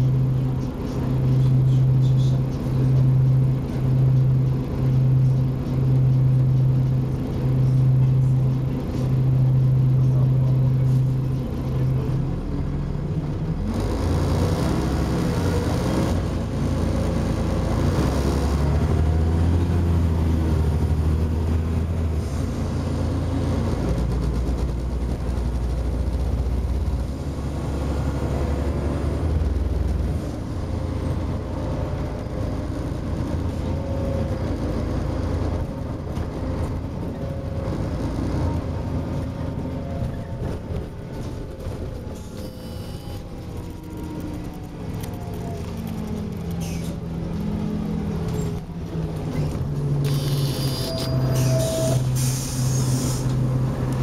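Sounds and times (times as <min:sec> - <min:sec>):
bus diesel engine shifting gears: 0:00.0 - 0:54.0
road and body rumble: 0:00.0 - 0:54.0.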